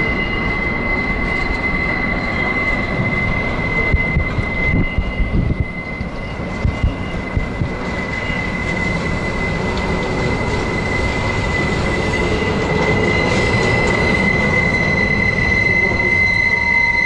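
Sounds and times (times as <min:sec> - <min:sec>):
rumble of train cars: 0:00.0 - 0:17.0
train wheels squealing on rail: 0:00.0 - 0:17.0.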